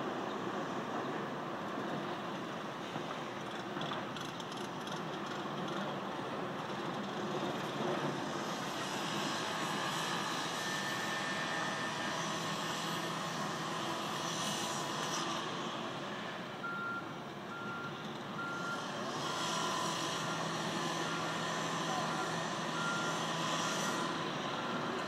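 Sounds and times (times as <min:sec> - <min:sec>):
construction machinery working: 0:00.0 - 0:25.0.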